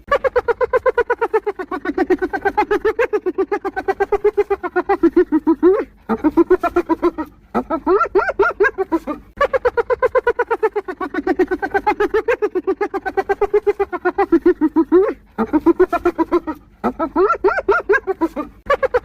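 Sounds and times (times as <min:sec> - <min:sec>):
hyena laughing: 0:00.0 - 0:19.0.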